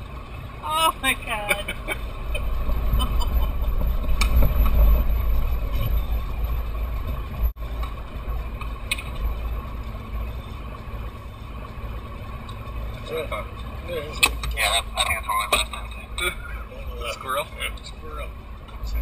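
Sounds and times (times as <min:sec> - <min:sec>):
engine and drivetrain rumble: 0:00.0 - 0:19.0.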